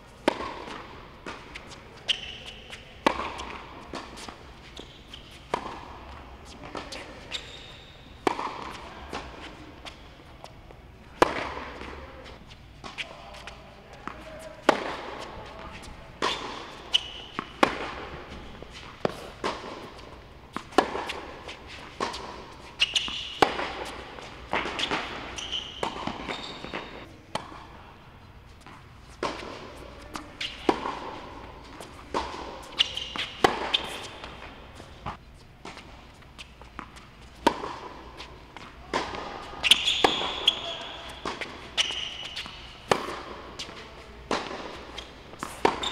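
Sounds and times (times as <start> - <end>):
shoes squeaking on court: 0.1 - 27.7, 28.3 - 45.9
racquet hitting tennis ball: 0.2 - 27.8, 28.6 - 45.9
tennis ball bouncing: 0.2 - 27.8, 28.6 - 45.9.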